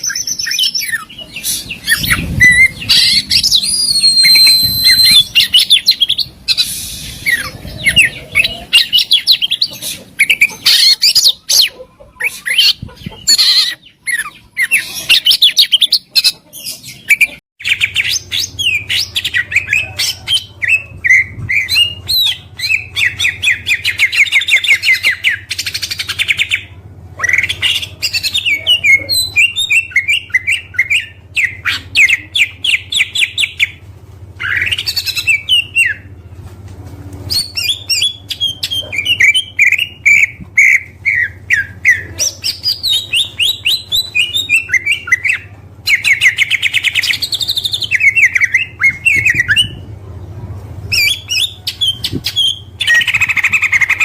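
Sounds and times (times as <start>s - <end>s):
bird singing varied song: 0.0s - 33.8s, 37.3s - 49.9s.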